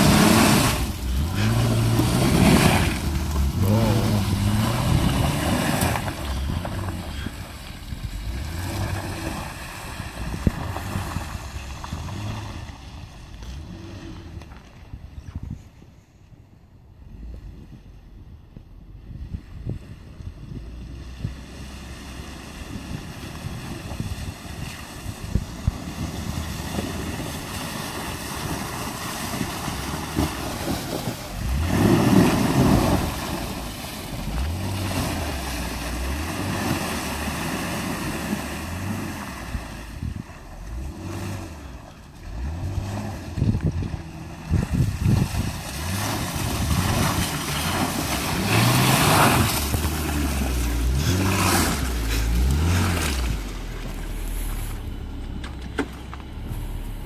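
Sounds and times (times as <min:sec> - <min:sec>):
car engine revving: 0:00.0 - 0:14.7, 0:20.5 - 0:57.0
tyres splashing through mud: 0:00.0 - 0:14.9, 0:20.4 - 0:57.0
wind buffeting microphone: 0:00.0 - 0:16.0, 0:17.1 - 0:36.6, 0:37.5 - 0:41.3, 0:42.4 - 0:54.2.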